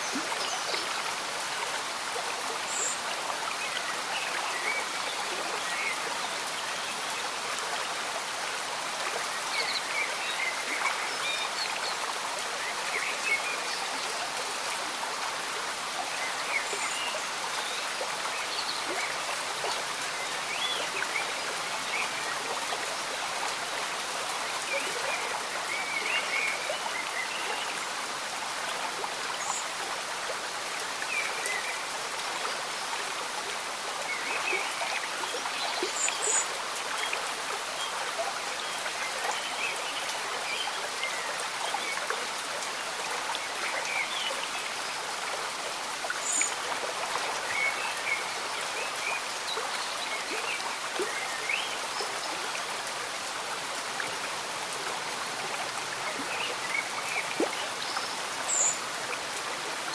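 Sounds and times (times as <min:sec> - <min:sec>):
gentle rain: 0:00.0 - 0:59.9
stream bubbling and trickling: 0:00.0 - 0:59.9
water drips and gurgles: 0:00.0 - 0:59.9.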